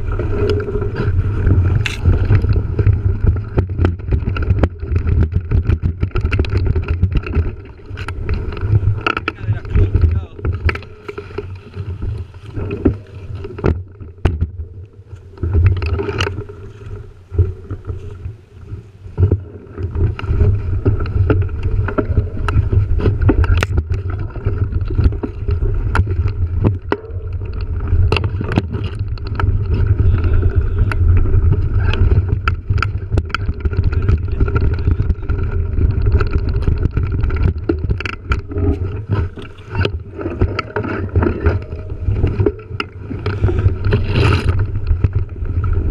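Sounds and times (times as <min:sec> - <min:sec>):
bike rattling over bumps: 0:00.0 - 0:45.9
bike tyres rumbling on dirt: 0:00.0 - 0:45.9.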